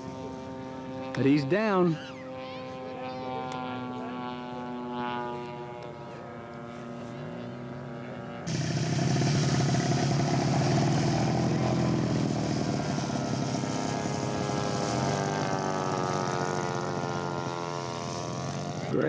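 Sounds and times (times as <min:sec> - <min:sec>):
model airplane engine and propeller: 0:00.0 - 0:19.0.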